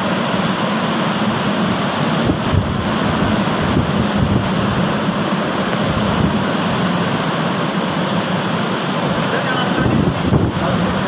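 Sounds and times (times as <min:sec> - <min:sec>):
heavy rain: 0:00.0 - 0:11.0
wind rushing through trees: 0:00.0 - 0:11.0
wind buffeting microphone: 0:01.3 - 0:11.0.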